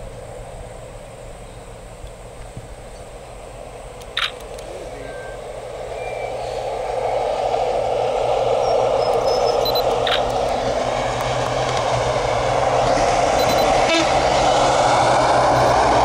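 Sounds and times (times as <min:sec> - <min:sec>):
train engine drone: 0:00.0 - 0:16.0.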